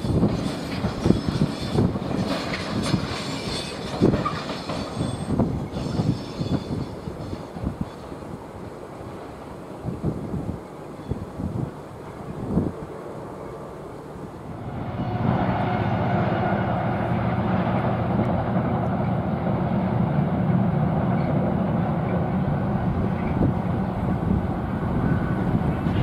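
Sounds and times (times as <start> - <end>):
wind buffeting microphone: 0.0 - 13.4, 14.1 - 26.0
freight train rumbling on bridge: 0.0 - 26.0.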